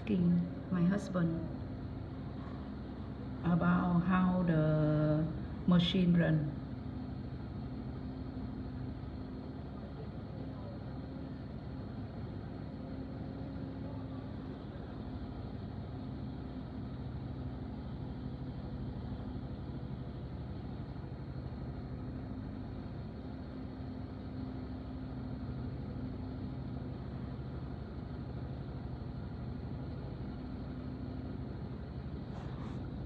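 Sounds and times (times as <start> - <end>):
machine engine humming steadily: 0.0 - 33.0.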